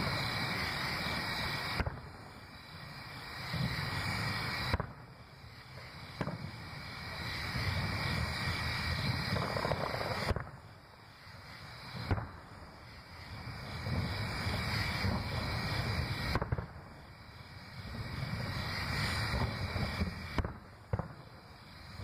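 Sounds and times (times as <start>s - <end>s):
fireworks booming: 0.0s - 22.0s.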